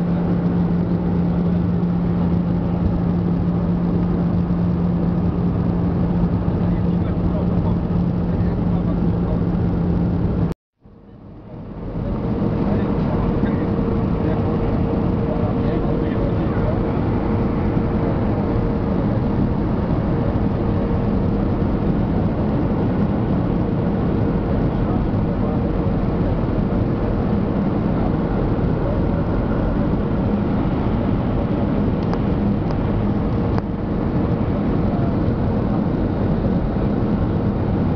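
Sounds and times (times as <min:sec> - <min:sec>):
jet engine roar in cabin: 0:00.0 - 0:37.9.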